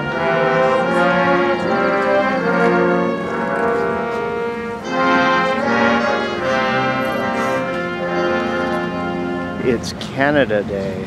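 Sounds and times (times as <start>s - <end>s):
brass band playing chords: 0.0s - 11.0s.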